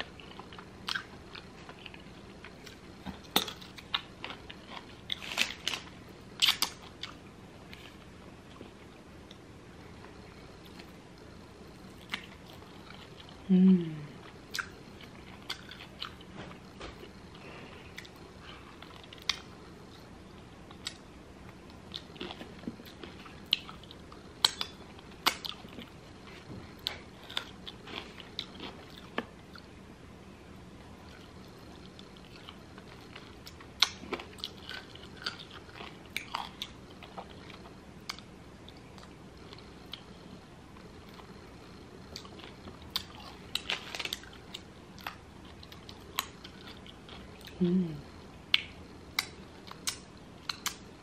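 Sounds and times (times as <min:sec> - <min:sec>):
chewing and crunching: 0:00.0 - 0:09.4, 0:10.0 - 0:13.4, 0:14.2 - 0:29.8, 0:31.0 - 0:47.6, 0:48.5 - 0:50.9.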